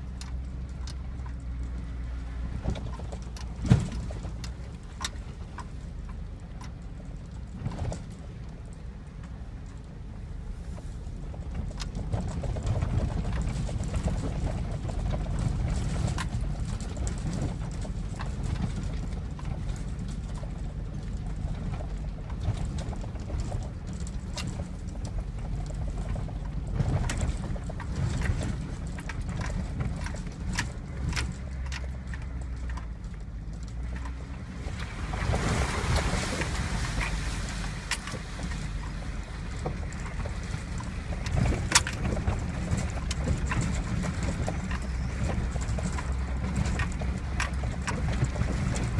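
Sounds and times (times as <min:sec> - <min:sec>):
body and suspension rattling: 0:00.0 - 0:48.9
truck engine rumbling: 0:00.0 - 0:48.9.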